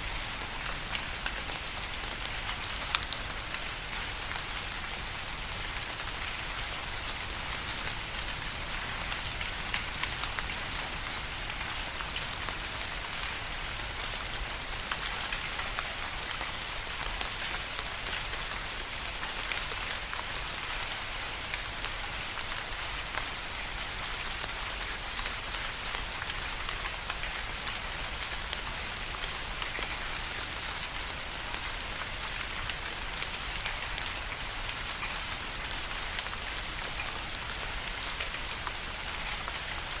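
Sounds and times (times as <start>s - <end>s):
rain pattering on a surface: 0.0s - 40.0s.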